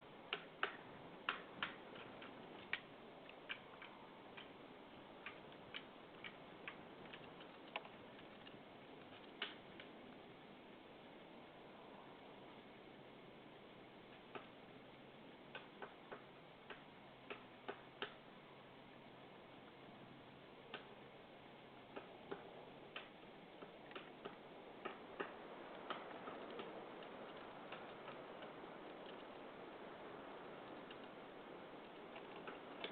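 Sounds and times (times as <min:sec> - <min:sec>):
faint steady hiss: 0:00.0 - 0:32.9.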